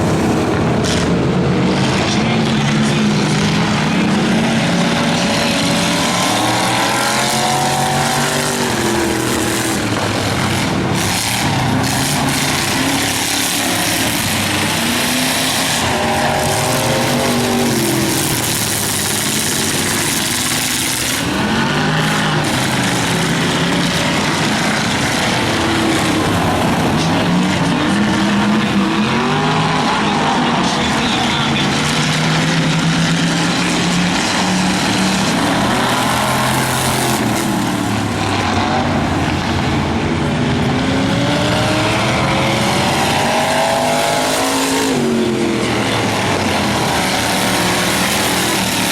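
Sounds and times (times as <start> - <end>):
race car engines revving: 0.0 - 48.9.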